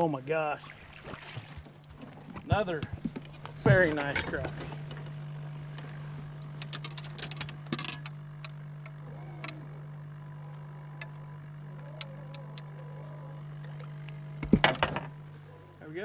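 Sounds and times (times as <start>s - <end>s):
low electric hum: 0.0s - 16.0s.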